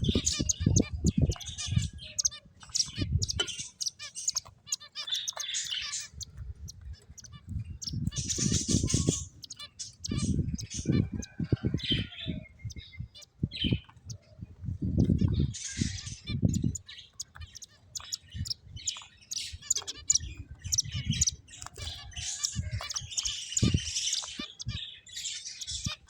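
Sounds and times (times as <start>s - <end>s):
finches chirping: 0.0s - 26.0s.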